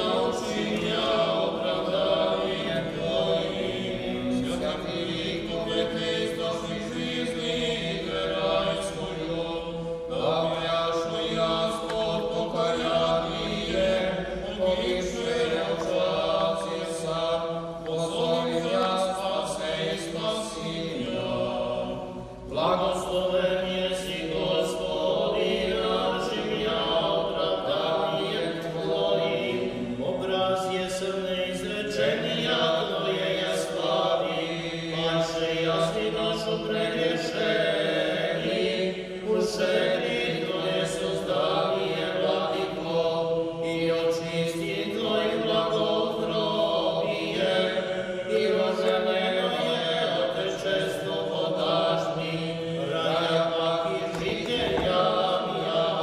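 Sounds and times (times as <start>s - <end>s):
unaccompanied choral chant: 0.0s - 56.0s.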